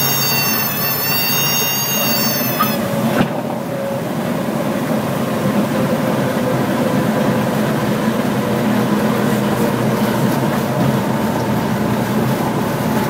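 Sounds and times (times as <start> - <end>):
light aircraft engine running: 0.0 - 13.0.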